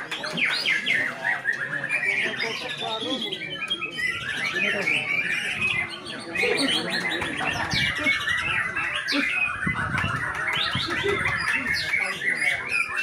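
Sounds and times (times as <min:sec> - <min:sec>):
many songbirds singing: 0:00.0 - 0:13.0.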